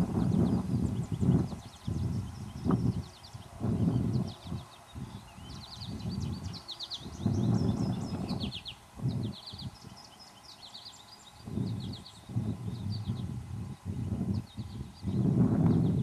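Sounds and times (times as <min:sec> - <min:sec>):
wind buffeting microphone: 0:00.0 - 0:10.2, 0:11.3 - 0:16.0
birds chirping and trilling: 0:00.0 - 0:16.0.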